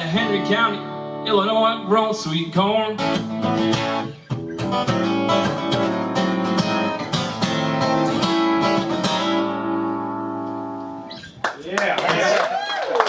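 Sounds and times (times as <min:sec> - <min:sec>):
acoustic guitar strumming: 0:00.0 - 0:11.4.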